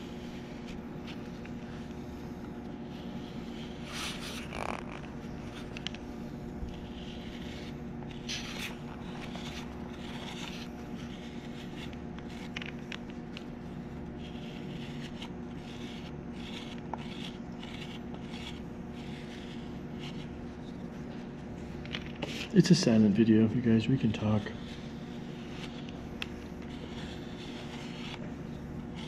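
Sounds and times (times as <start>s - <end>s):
steady low hum: 0.0s - 29.0s
tool scraping clay: 0.0s - 29.0s.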